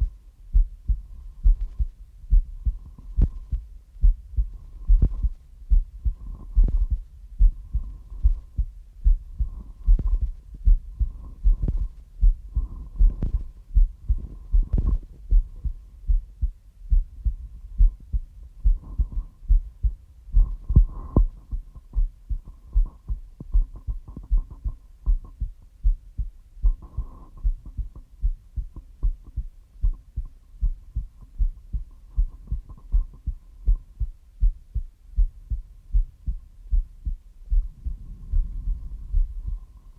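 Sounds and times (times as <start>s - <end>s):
faint hum: 0.0s - 39.9s
heartbeat thumps: 0.0s - 39.9s.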